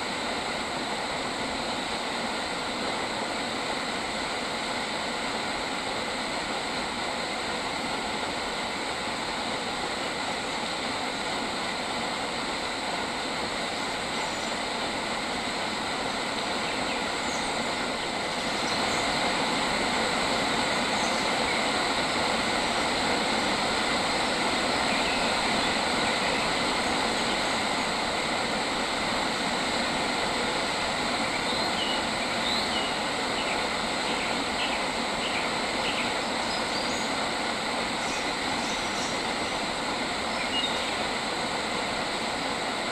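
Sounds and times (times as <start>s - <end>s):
loud even nature hiss: 0.0s - 42.9s.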